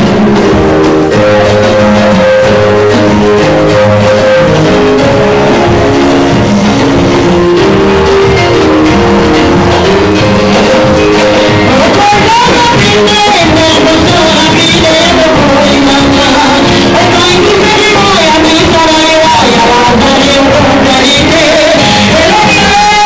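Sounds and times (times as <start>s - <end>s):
live worship music with guitar: 0.0s - 23.0s
person singing: 0.0s - 23.0s.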